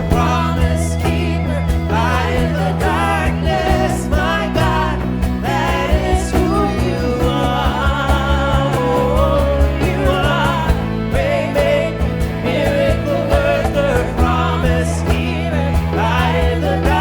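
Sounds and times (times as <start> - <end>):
worship band playing: 0.0 - 17.0.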